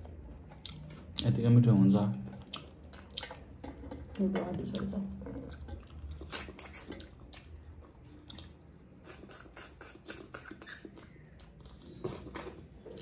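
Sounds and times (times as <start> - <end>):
people chewing and lip smacking: 0.0 - 13.0.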